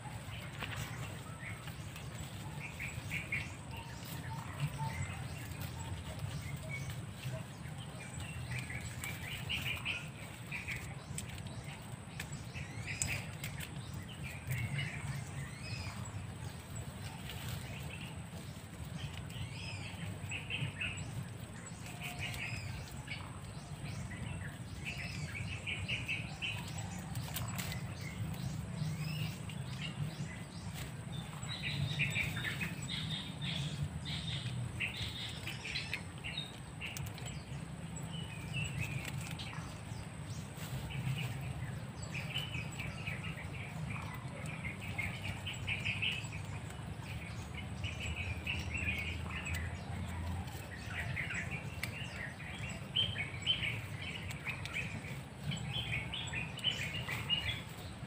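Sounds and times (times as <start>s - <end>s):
steady low rumble: 0.0s - 58.0s
wild birds chirping: 0.0s - 58.0s.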